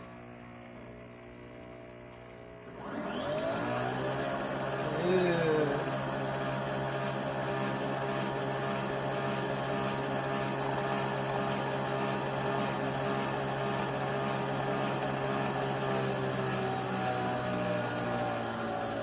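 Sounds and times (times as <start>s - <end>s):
coffee machine whirring: 0.0s - 19.0s.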